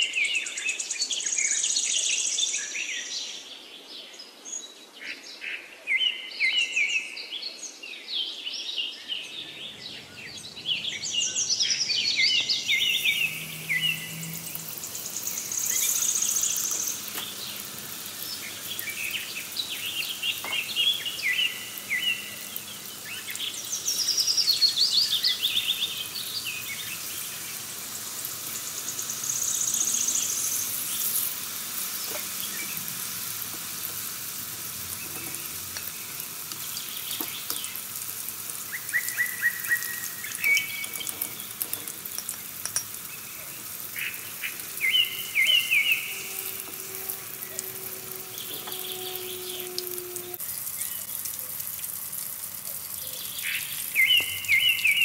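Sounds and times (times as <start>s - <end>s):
birds chirping: 8.9s - 51.3s, 53.0s - 55.0s
food sizzling in hot oil: 9.3s - 55.0s.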